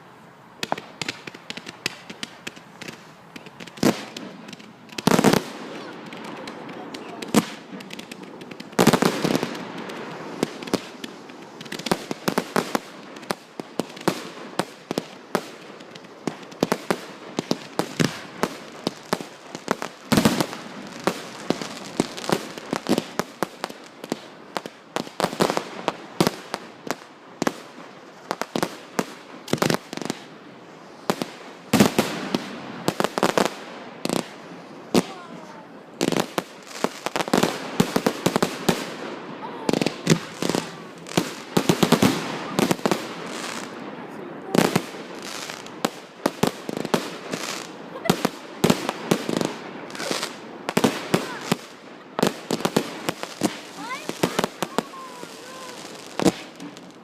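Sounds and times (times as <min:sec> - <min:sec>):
fireworks bangs: 0:00.6 - 0:57.0.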